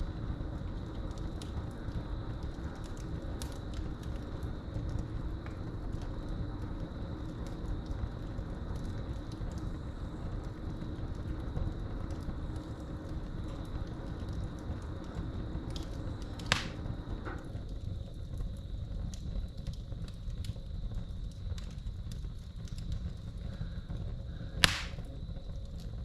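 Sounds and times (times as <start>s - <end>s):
crickets trilling: 0.0s - 26.0s
wood fire crackling: 0.0s - 26.0s.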